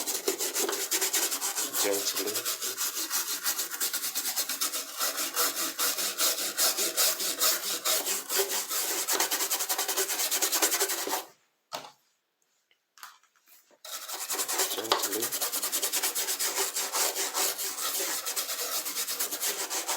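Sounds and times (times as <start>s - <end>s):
brush scrubbing plastic: 0.0s - 11.4s, 13.9s - 19.9s.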